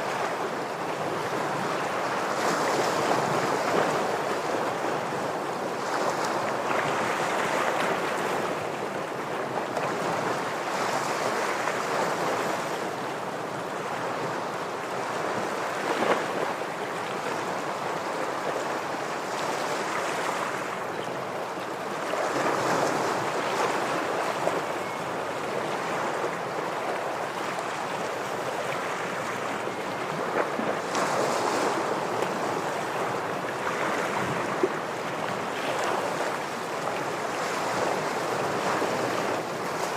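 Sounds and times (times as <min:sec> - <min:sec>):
ocean waves breaking on rocks: 0:00.1 - 0:39.9.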